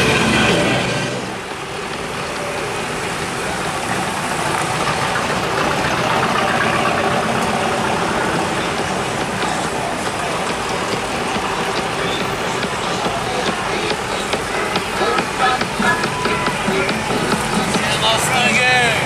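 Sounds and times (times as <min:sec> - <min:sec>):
car engines cruising past: 0:00.0 - 0:19.0.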